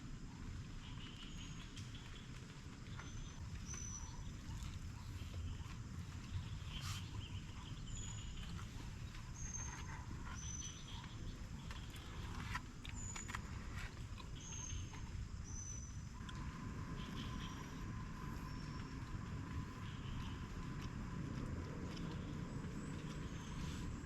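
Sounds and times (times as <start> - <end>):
rain pattering: 0.0 - 12.9, 16.1 - 24.0
low rumble: 0.0 - 24.0.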